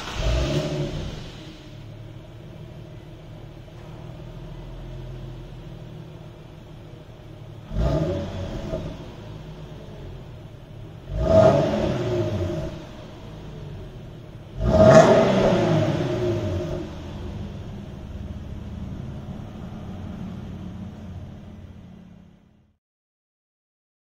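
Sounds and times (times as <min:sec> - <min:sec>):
car exhaust idling and revving: 0:00.0 - 0:22.8.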